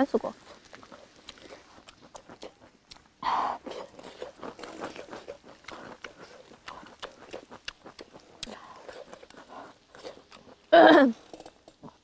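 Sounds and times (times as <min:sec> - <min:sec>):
people chewing: 0:00.2 - 0:12.0.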